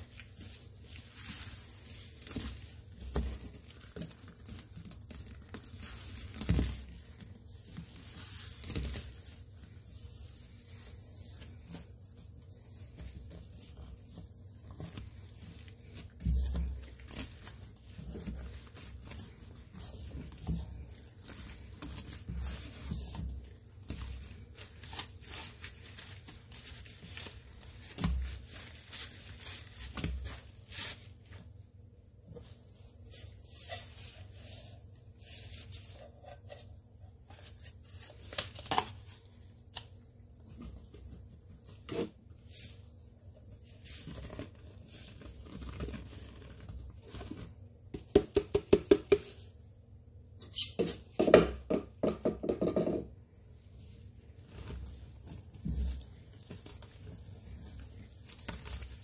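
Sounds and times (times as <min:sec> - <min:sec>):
hands squishing foamy paste: 0:00.0 - 0:49.8, 0:53.8 - 0:59.0.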